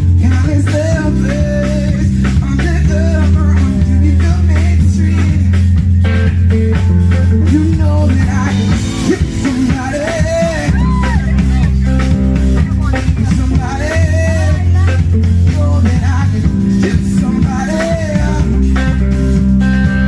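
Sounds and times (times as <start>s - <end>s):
person singing: 0.0s - 5.6s, 7.4s - 19.2s
band playing: 0.0s - 20.0s.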